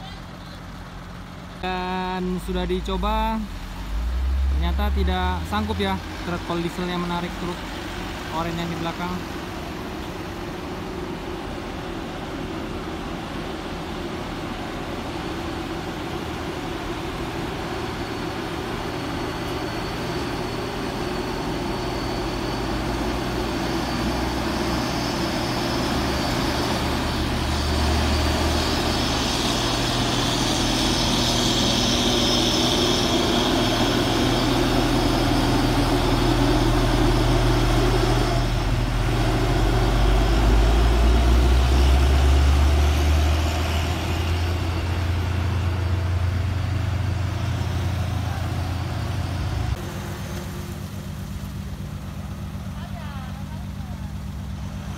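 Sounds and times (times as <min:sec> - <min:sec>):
diesel trucks driving past: 0:00.0 - 0:54.9.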